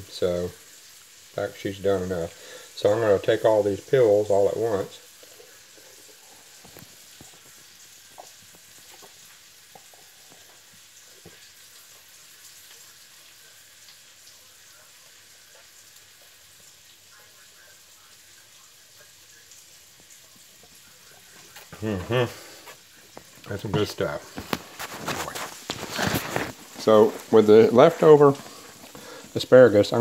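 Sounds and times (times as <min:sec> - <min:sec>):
faint sizzle in skillet: 0:00.0 - 0:30.0.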